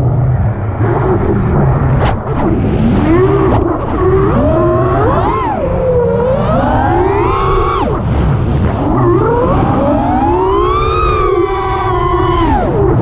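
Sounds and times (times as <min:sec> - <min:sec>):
drone motors whining: 0:00.0 - 0:13.0
wind rumble: 0:00.0 - 0:13.0.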